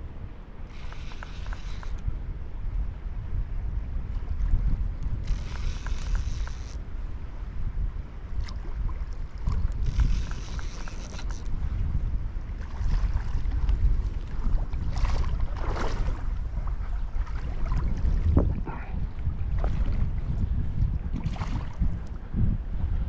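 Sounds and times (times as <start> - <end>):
shallow river flowing: 0.0 - 2.7, 4.2 - 22.8
wind buffeting microphone: 0.0 - 23.0.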